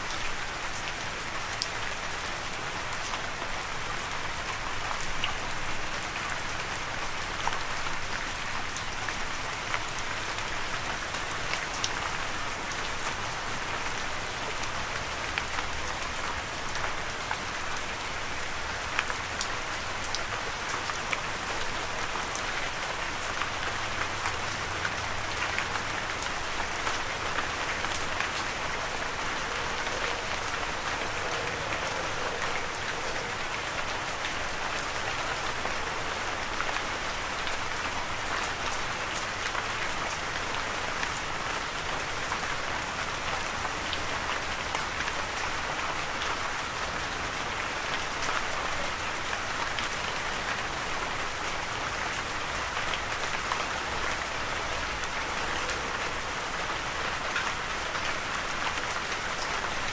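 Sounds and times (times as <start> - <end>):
raindrops ticking on a surface: 0.0 - 59.9
steady rain hiss: 0.0 - 59.9.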